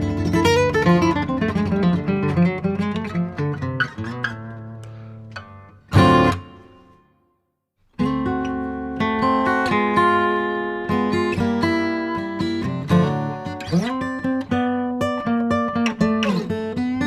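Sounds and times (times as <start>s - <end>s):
acoustic guitar picking and strumming: 0.0s - 7.0s, 8.0s - 17.0s.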